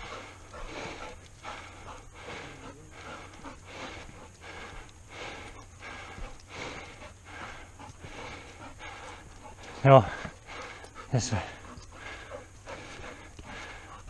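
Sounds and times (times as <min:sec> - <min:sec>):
heavy rhythmic breathing: 0:00.0 - 0:14.0.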